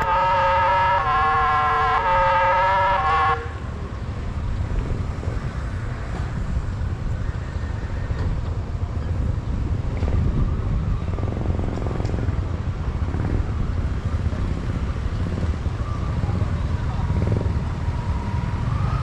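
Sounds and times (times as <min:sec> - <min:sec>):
road traffic passing: 0:00.0 - 0:19.0
wind rumbling on microphone: 0:00.0 - 0:19.0.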